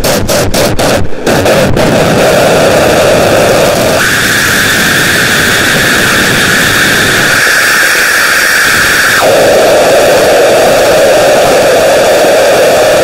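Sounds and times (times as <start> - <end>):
loud static hiss: 0.0 - 13.0.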